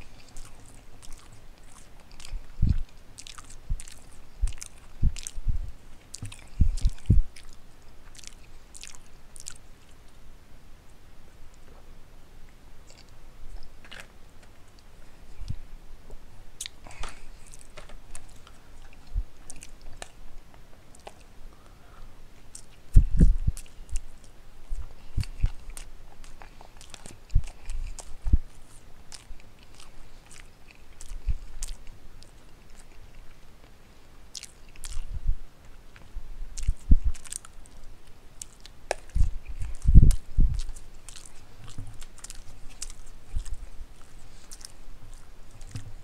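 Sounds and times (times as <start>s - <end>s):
person chewing noodles: 0.0s - 10.1s, 12.8s - 14.1s, 16.6s - 20.2s, 22.4s - 33.5s, 34.2s - 35.8s, 36.6s - 46.0s.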